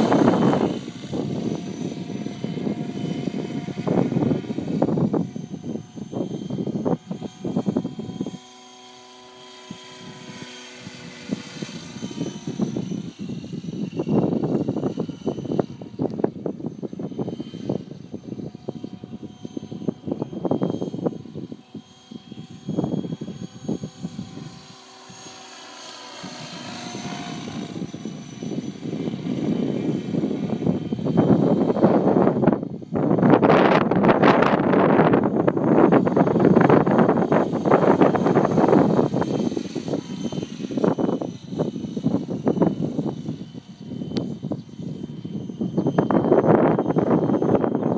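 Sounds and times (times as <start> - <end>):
helicopter engine whine: 0.0 - 47.9
wind buffeting microphone: 0.0 - 47.9.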